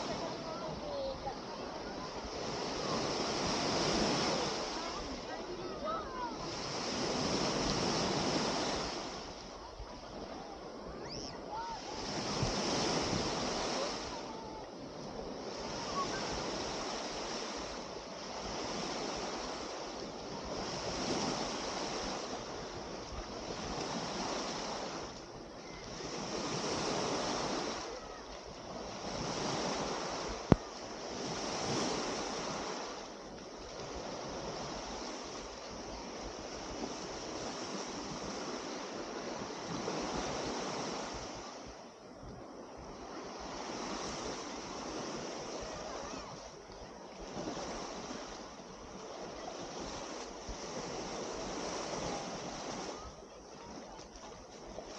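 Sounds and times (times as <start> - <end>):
small waves breaking on beach: 0.0 - 54.9.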